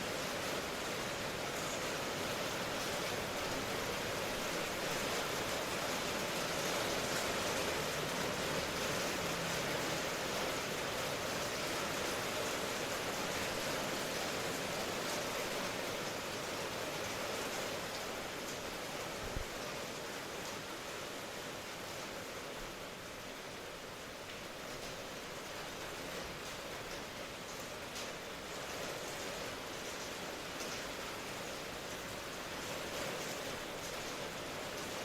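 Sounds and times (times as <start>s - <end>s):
steady rain hissing: 0.0s - 35.0s.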